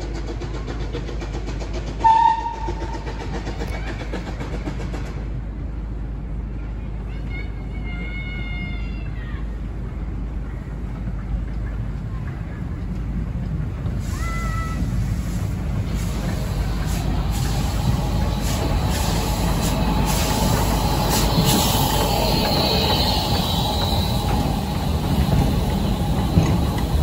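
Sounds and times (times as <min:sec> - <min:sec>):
steam locomotive beats and hiss: 0:00.0 - 0:06.5, 0:09.6 - 0:27.0
wheels rumbling: 0:00.0 - 0:27.0.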